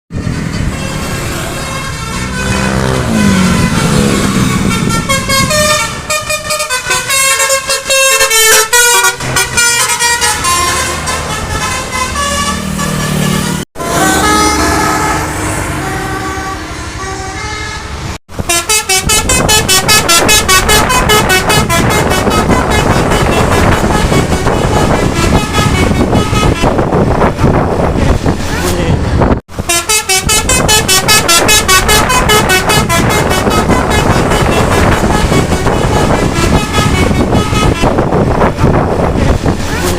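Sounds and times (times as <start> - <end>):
multi-tone bus air horn melody: 0.2 - 39.9.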